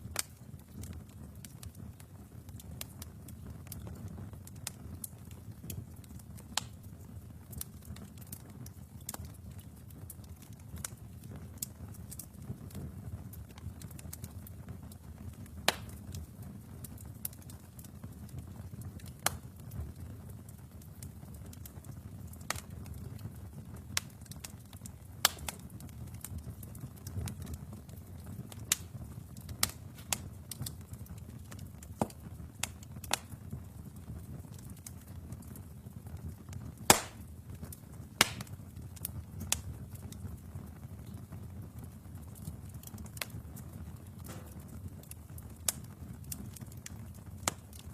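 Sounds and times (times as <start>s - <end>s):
burning logs rumbling: 0.0s - 47.9s
fire pops and snaps: 0.0s - 47.9s.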